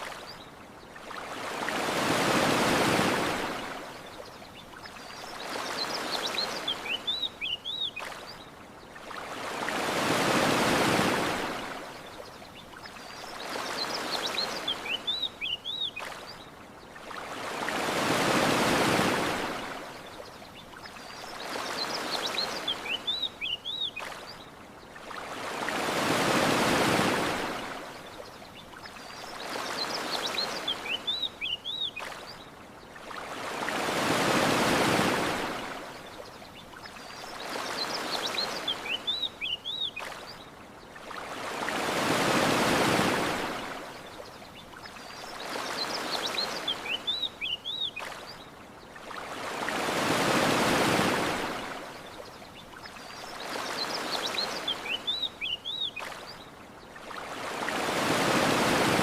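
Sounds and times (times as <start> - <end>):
ocean waves washing onto beach: 0.0 - 59.0.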